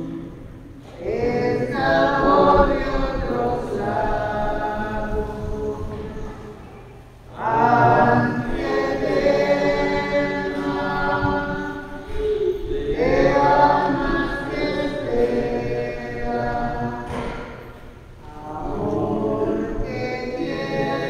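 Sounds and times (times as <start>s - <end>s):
church choir singing: 0.0s - 21.0s.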